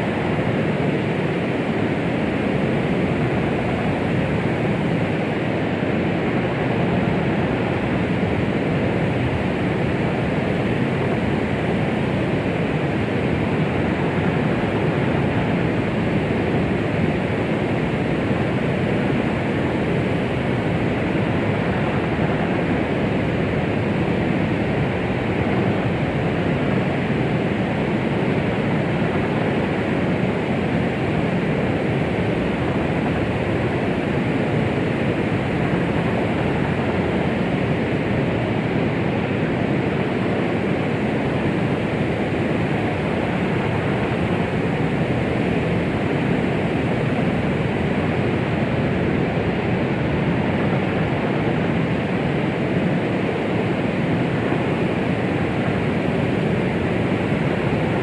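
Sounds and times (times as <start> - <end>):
deep muffled white noise: 0.0 - 58.0.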